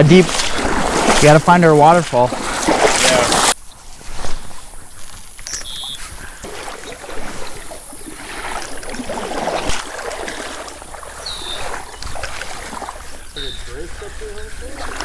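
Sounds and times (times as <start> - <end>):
river water sloshing and splashing: 0.0 - 15.0.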